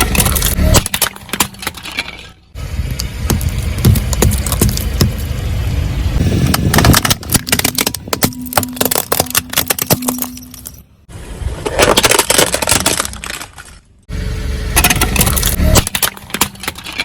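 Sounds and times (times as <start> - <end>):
car crushing brittle objects: 0.0 - 5.4, 6.4 - 10.8, 11.5 - 14.0, 14.8 - 17.0
car rumble: 0.0 - 17.0.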